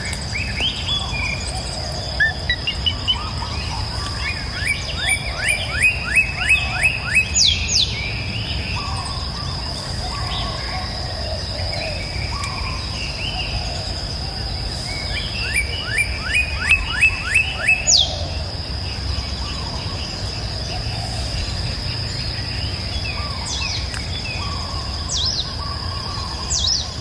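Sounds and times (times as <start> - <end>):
insects buzzing: 0.0 - 27.0
songbirds calling and singing: 0.0 - 27.0.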